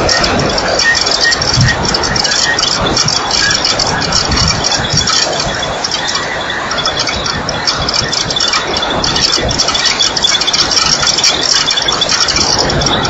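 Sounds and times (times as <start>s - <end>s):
insects pulsing chirps: 0.0s - 13.0s
steady rushing noise: 0.0s - 13.0s.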